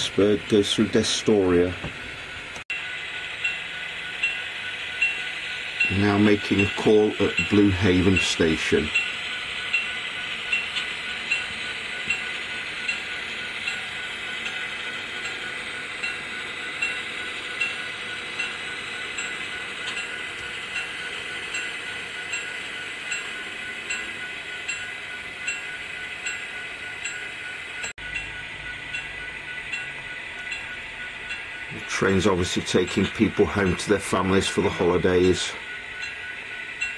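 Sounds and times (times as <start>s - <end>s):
model train running hiss: 0.0s - 1.9s, 2.7s - 27.9s, 31.3s - 36.9s
light track clicks: 3.4s - 36.9s.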